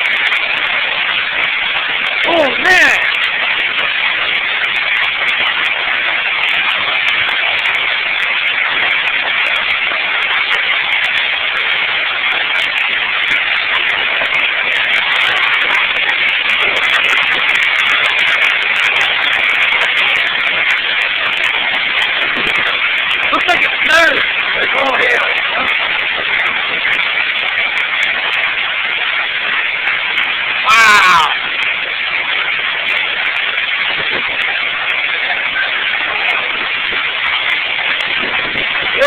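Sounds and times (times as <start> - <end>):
hailstones ticking: 0.0 - 39.0
heavy hail and rain: 0.0 - 39.0.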